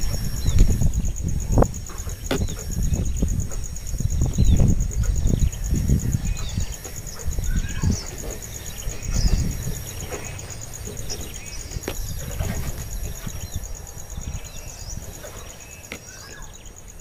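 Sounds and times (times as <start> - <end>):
bird chirps: 0.0 - 17.0
high-pitched insect trill: 0.0 - 17.0.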